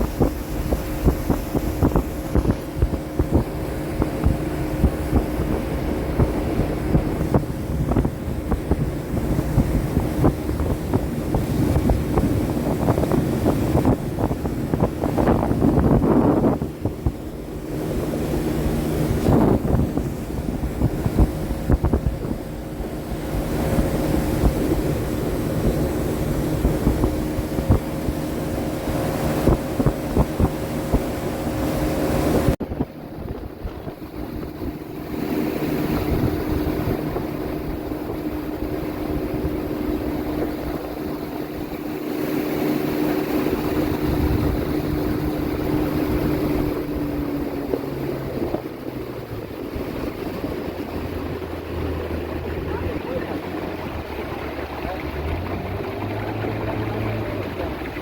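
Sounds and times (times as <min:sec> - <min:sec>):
outboard motor running: 0:00.0 - 0:58.0
wind buffeting microphone: 0:00.0 - 0:58.0.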